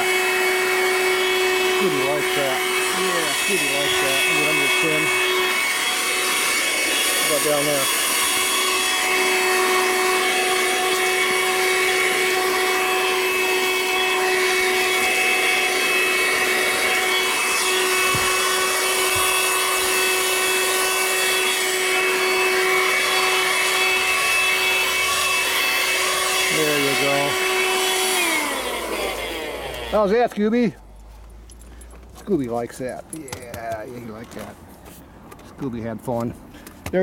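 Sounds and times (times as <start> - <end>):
handheld vacuum whine: 0.0 - 30.5.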